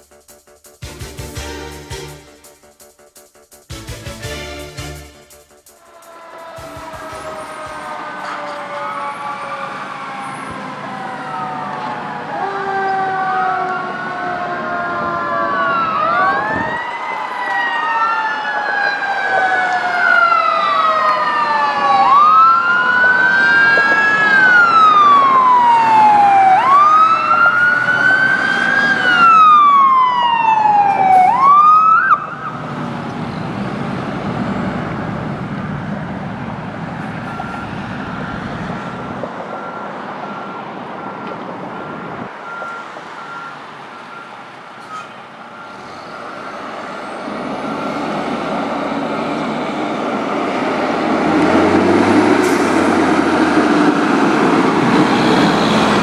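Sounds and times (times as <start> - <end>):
fire engine wail siren: 5.6 - 56.0
fire truck engine running: 5.7 - 44.7, 48.6 - 56.0
second siren: 5.7 - 56.0.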